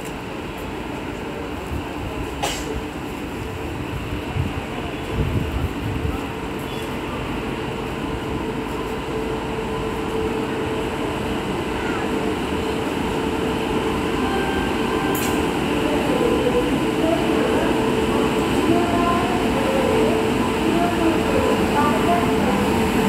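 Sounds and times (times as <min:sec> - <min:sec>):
electric locomotive rumbling and humming: 0:00.0 - 0:23.0.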